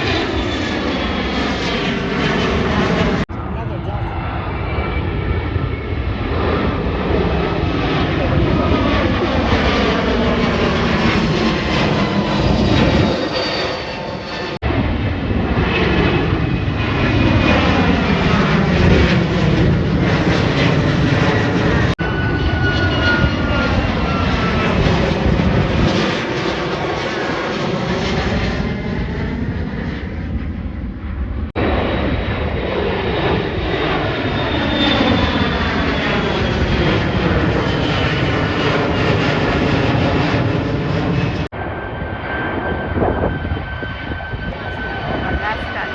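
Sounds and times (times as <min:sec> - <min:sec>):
jet engines passing overhead: 0:00.0 - 0:45.9.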